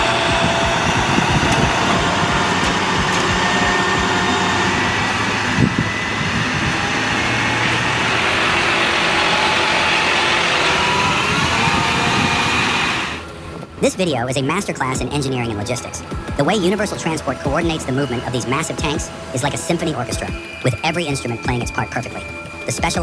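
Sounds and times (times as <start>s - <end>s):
heavy truck engine running: 0.0s - 23.0s
road traffic noise: 0.0s - 23.0s.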